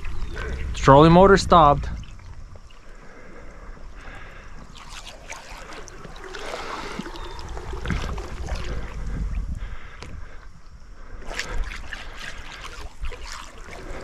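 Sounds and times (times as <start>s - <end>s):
water gurgling and splashing: 0.0s - 10.4s, 11.0s - 14.0s.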